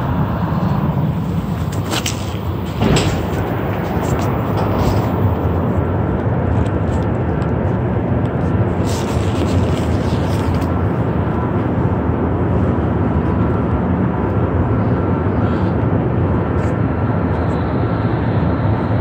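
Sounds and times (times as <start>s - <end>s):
rumbling in subway station: 0.0s - 19.0s.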